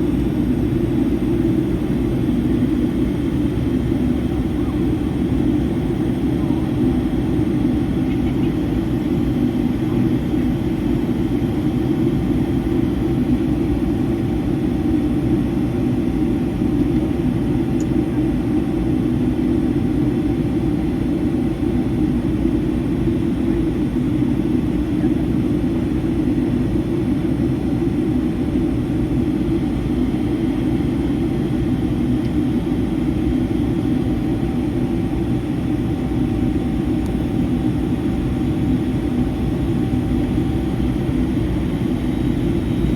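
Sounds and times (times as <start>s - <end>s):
jet engines droning: 0.0s - 42.9s.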